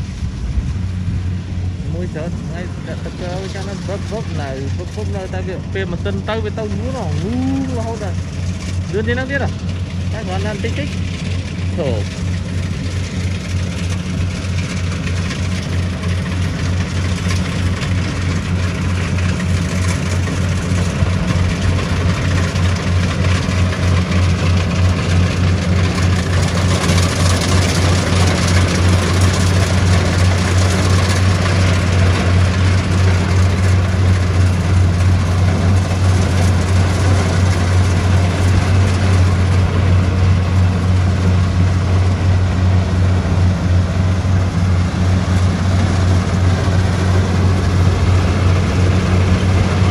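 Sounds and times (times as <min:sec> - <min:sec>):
combine harvester engine running: 0:00.0 - 0:49.9.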